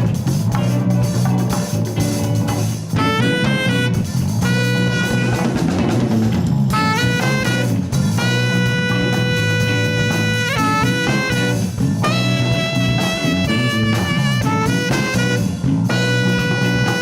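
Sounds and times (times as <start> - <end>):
horn lead: 0.0 - 17.0
latin fusion band playing: 0.0 - 17.0.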